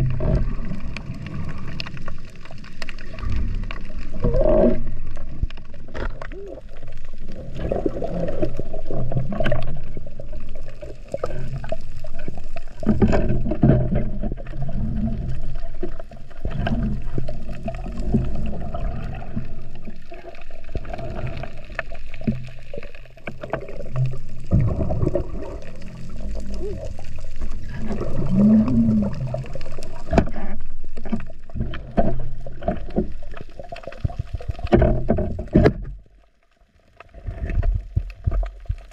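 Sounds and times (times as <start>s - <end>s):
underwater water rushing: 0.0s - 38.9s.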